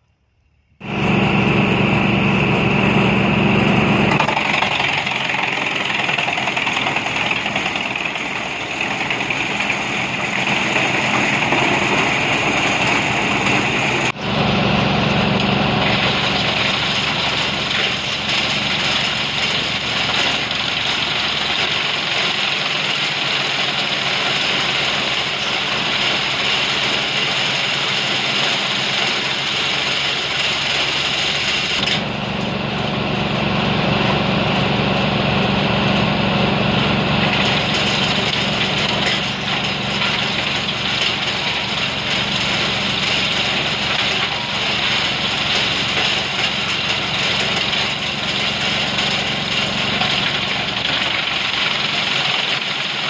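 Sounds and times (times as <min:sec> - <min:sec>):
tractor engine under load: 0:00.8 - 0:53.0
wood chipper grinding branches: 0:00.8 - 0:53.0.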